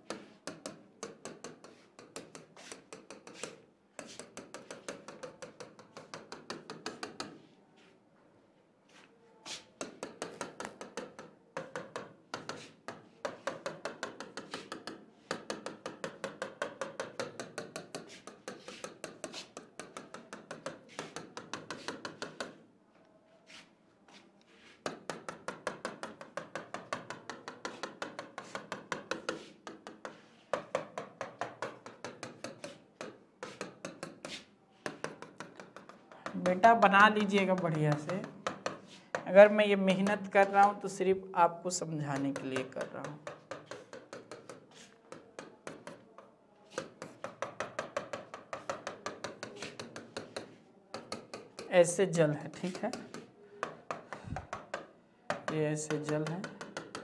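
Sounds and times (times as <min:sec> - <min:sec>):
stylus tapping and scraping on glass: 0:00.0 - 0:07.4, 0:09.8 - 0:22.6, 0:24.8 - 0:41.1, 0:41.8 - 0:57.0.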